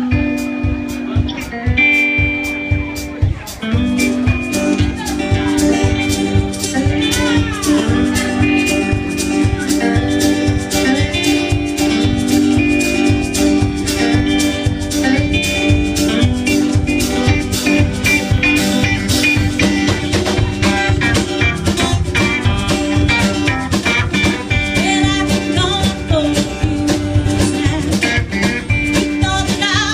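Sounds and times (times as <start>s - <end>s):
guitar bending notes: 0.0s - 29.9s
live band playing instrumental: 0.0s - 29.9s.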